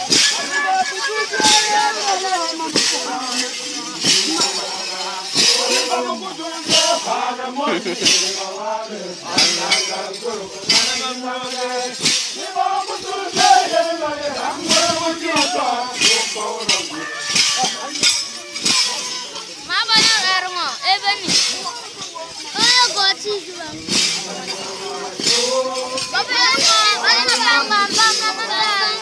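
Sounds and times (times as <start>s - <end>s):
group of voices chanting: 0.0s - 29.0s
jangling rattle beat: 0.0s - 29.0s.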